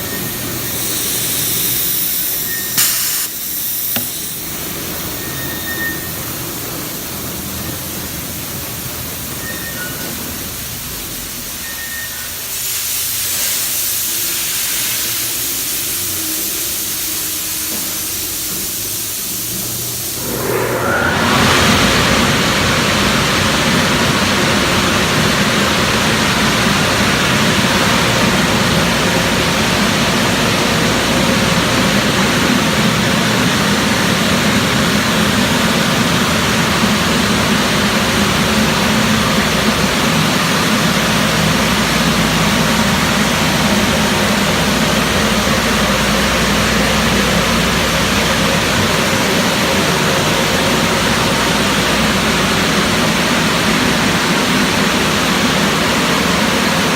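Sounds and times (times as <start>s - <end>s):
automatic car wash rushing: 0.0s - 56.9s.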